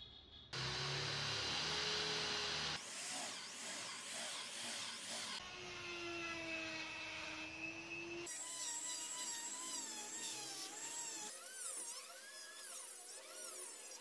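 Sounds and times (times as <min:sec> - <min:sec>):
rotary tool whining into wood: 0:00.6 - 0:14.0.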